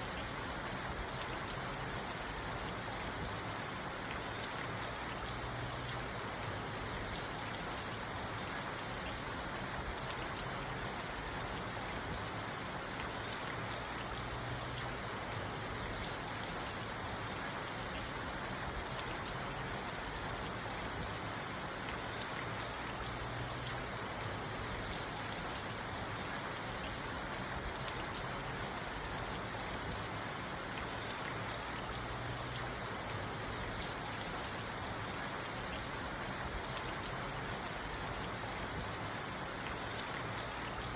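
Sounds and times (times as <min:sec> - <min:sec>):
rain on a car roof: 0:00.0 - 0:40.9.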